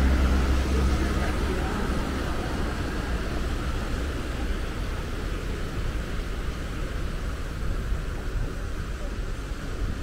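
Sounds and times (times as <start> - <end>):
low traffic rumble and hiss: 0.0 - 10.0.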